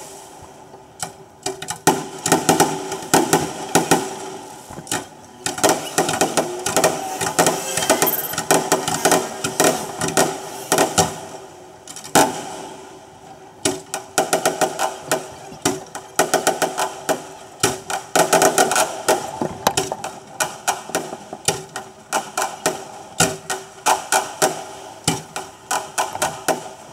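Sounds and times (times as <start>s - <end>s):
firework bangs and crackles: 0.0s - 26.9s.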